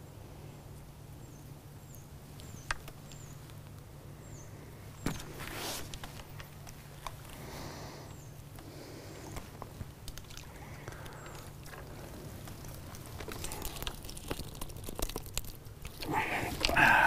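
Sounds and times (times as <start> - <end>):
outdoor background: 0.0 - 17.0.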